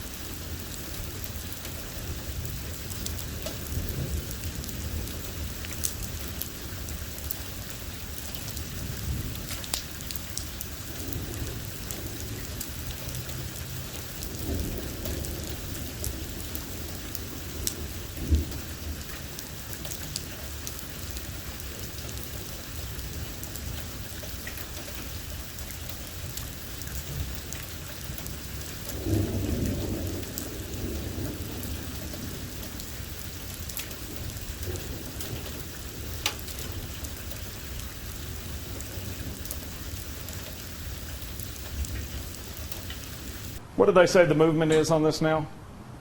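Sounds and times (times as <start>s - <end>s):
thunder rumbling: 0.0s - 25.6s, 26.2s - 43.6s
raindrops ticking on surface: 0.0s - 43.6s
steady rain: 0.0s - 43.7s.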